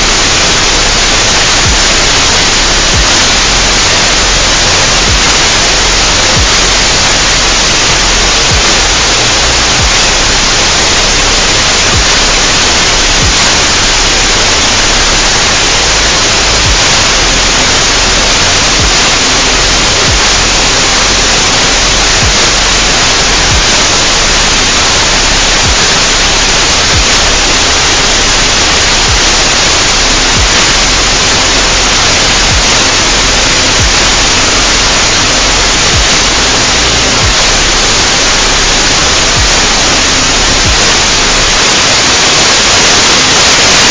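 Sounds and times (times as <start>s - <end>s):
low hum tones shifting pitch: 0.0s - 43.9s
synthesized hiss: 0.0s - 43.9s.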